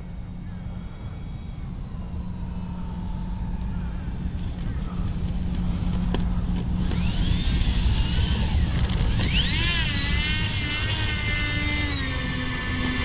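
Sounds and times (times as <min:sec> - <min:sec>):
model aircraft motors whining: 0:00.0 - 0:13.0.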